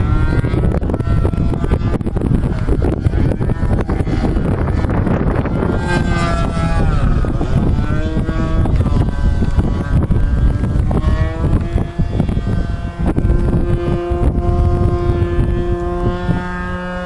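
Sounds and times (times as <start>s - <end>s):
model aircraft engine whine: 0.0s - 17.0s
wind buffeting microphone: 0.0s - 17.0s.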